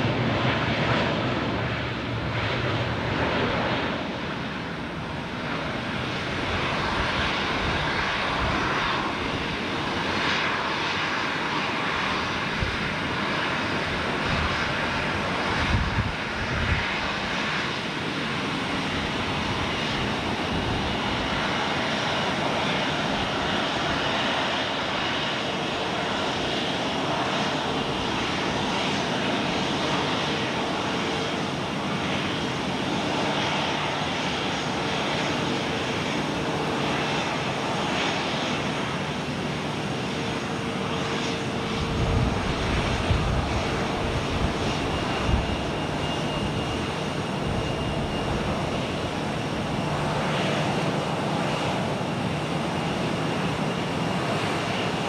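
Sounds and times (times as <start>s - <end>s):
jet engines rushing: 0.0s - 55.0s.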